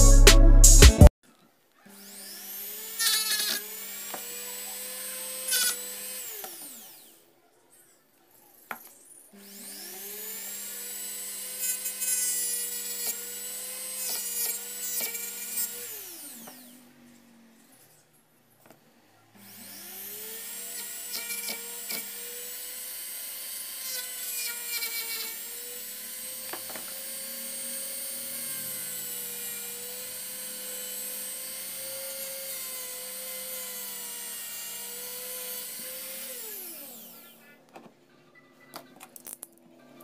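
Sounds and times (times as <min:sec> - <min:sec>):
rotary tool high whine: 0:01.9 - 0:37.6.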